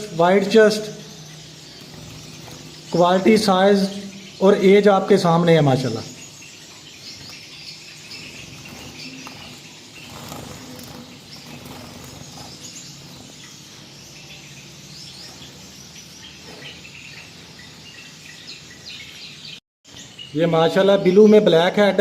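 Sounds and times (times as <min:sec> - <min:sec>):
finches chirping: 0:00.0 - 0:21.9.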